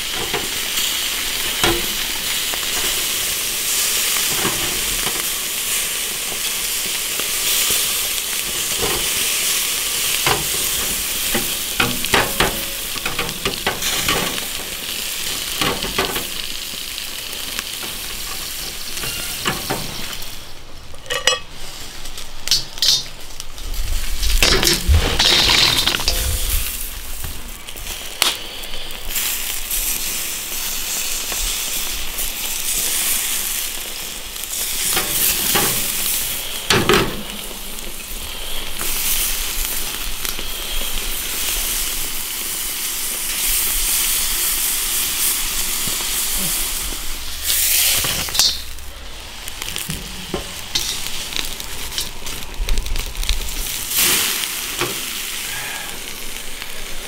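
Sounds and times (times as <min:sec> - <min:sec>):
peppers sizzling in a grill pan: 0:00.0 - 0:57.0.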